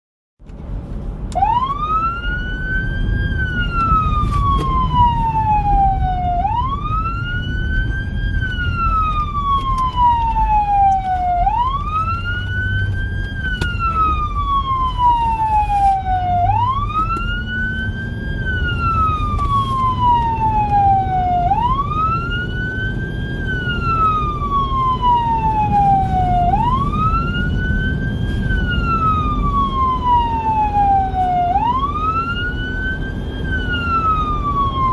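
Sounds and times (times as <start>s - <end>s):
vehicle rumble: 0.4s - 34.9s
electronic siren wailing: 1.3s - 34.9s.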